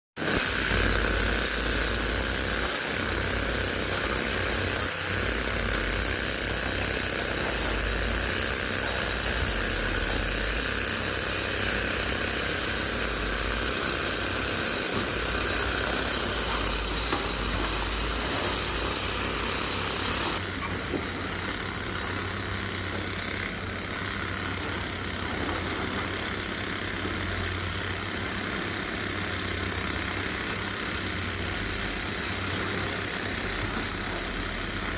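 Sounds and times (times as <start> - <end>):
diesel machinery engine hum: 0.7 - 30.6.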